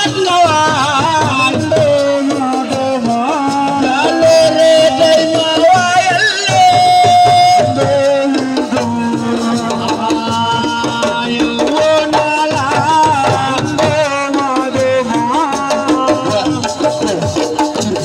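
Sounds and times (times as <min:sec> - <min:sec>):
hand drums beat: 0:00.0 - 0:18.0.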